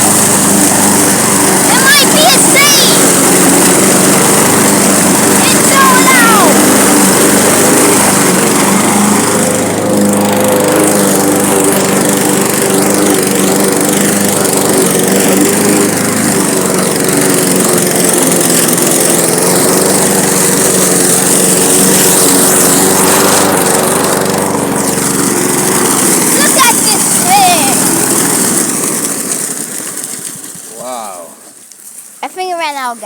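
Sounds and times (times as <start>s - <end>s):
lawn mower engine cutting grass: 0.0s - 33.0s.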